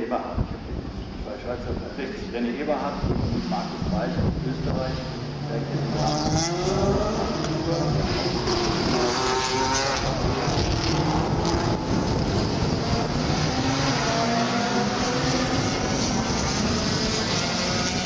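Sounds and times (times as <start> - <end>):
race cars passing at high revs: 0.6 - 18.0.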